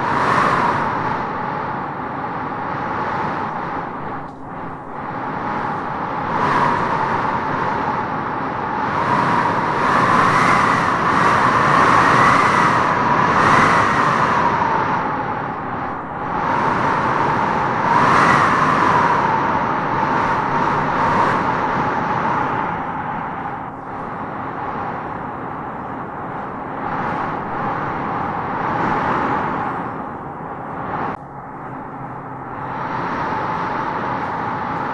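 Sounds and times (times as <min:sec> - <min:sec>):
howling gusty wind: 0:00.0 - 0:34.9.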